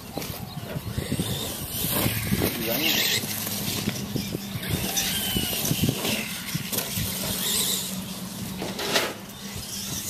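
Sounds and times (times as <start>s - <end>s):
toy truck motors whining: 0.0s - 10.0s.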